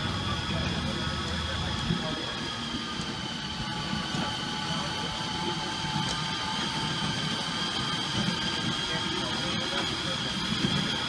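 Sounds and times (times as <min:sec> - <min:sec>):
tour train running: 0:00.0 - 0:11.0.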